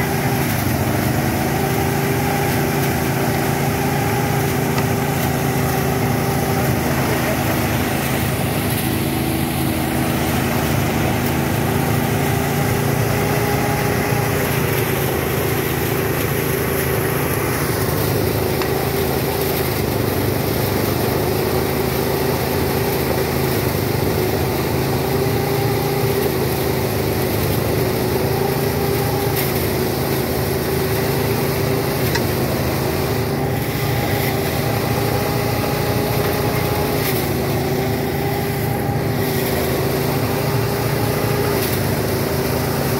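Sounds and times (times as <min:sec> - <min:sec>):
threshing machine engine humming: 0:00.0 - 0:42.9.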